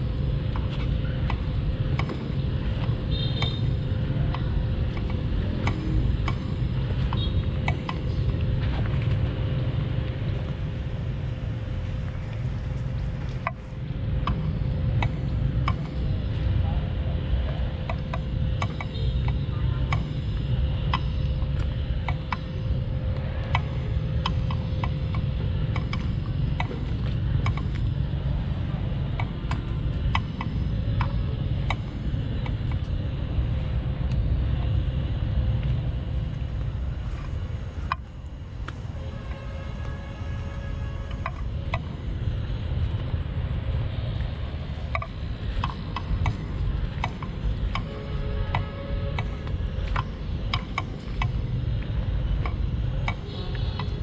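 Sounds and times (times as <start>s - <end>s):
steady low rumbling: 0.0s - 54.0s
faint steady tone: 9.6s - 54.0s.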